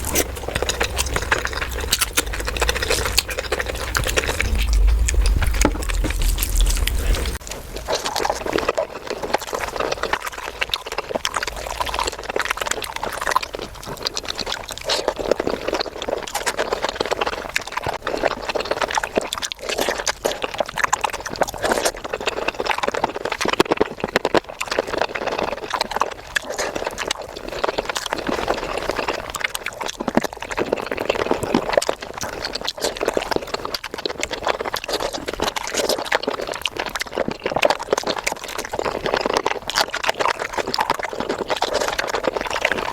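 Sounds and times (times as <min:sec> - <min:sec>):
wet chewing and lip-smacking: 0:00.0 - 0:42.9.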